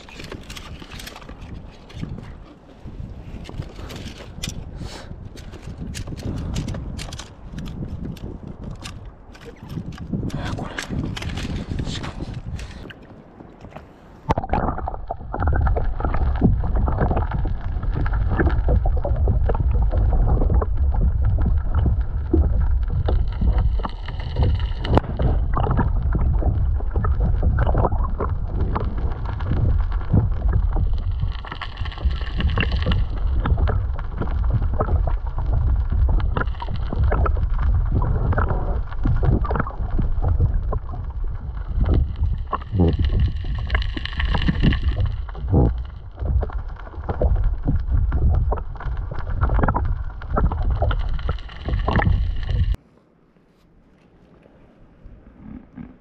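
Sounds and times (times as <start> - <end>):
wind rumble on microphone: 0.0 - 52.8
water sloshing and splashing: 5.6 - 52.8.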